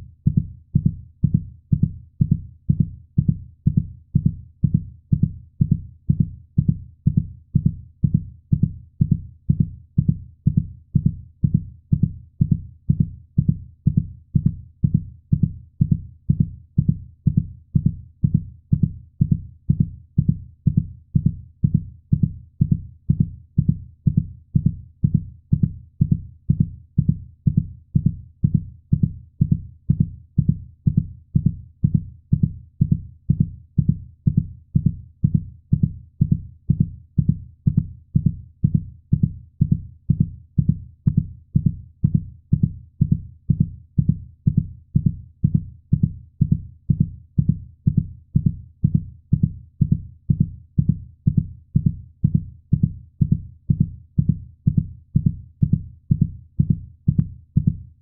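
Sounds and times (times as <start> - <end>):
heartbeat thumps: 0.0 - 58.0.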